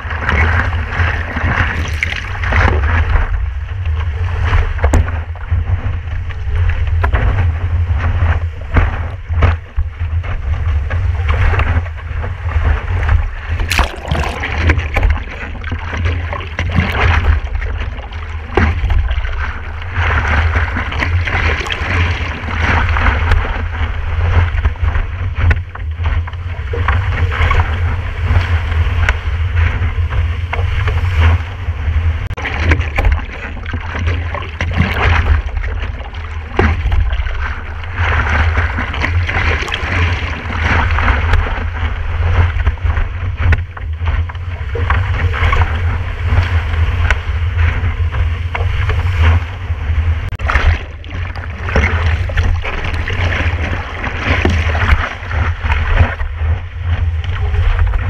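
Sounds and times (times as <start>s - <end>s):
water rushing and spraying: 0.0s - 58.0s
wind buffeting microphone: 0.0s - 58.0s.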